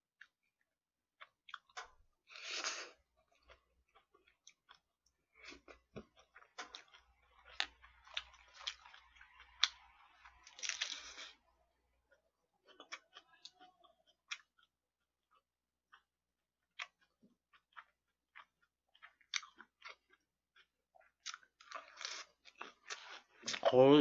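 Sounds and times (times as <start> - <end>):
chewing: 1.2 - 23.8.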